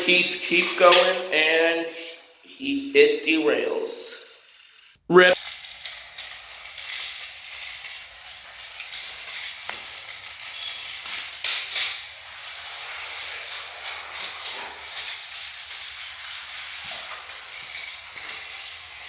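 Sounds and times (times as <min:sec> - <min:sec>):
toy train motors whirring: 0:00.0 - 0:19.0.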